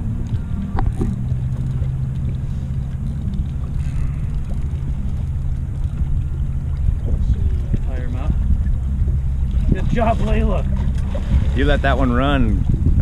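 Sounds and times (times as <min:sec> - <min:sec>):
outboard motor idling: 0:00.0 - 0:13.0
wind rumbling on microphone: 0:00.0 - 0:13.0.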